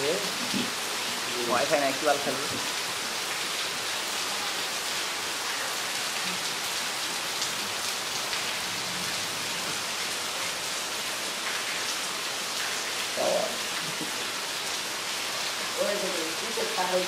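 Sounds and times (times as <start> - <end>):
rain on wet street: 0.0 - 17.0.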